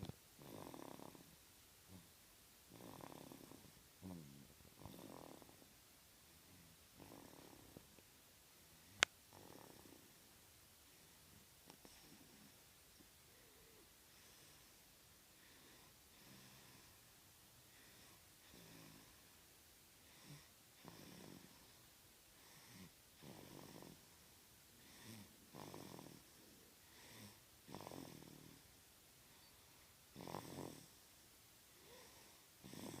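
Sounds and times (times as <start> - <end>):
faint snoring: 0.4 - 5.8, 6.4 - 8.0, 8.7 - 10.2, 10.9 - 12.6, 13.3 - 19.4, 20.0 - 21.8, 22.4 - 24.2, 24.8 - 28.7, 29.3 - 31.0, 31.7 - 33.0.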